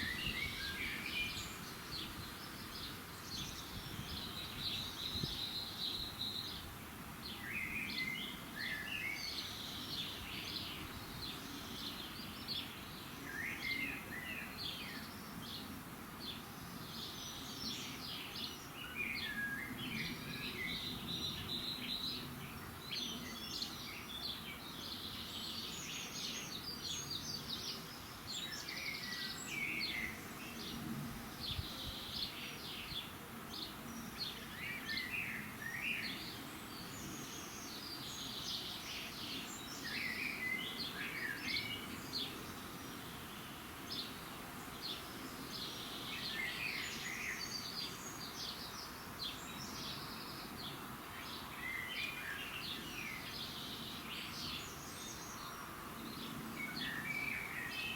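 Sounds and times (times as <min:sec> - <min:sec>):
faint background hiss: 0:00.0 - 0:57.9
songbirds chirping and trilling: 0:00.0 - 0:57.9.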